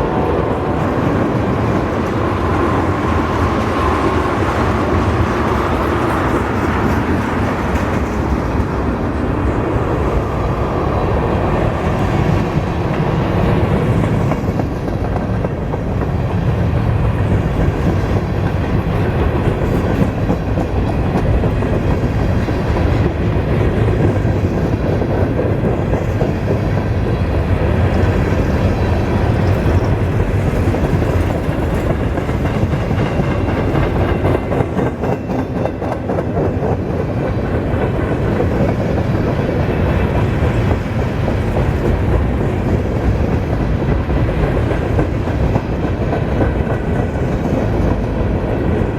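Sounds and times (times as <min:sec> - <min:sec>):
train wheels on rail: 0:00.0 - 0:48.9.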